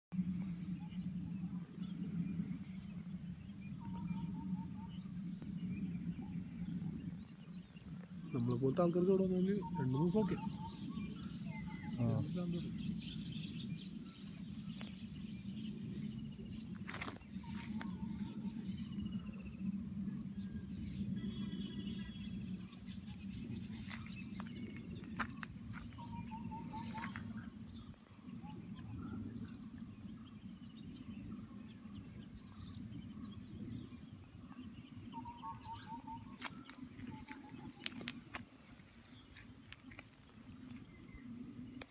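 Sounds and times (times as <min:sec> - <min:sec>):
steady low rumble: 0:00.1 - 0:41.9
birds chirping: 0:00.2 - 0:41.9.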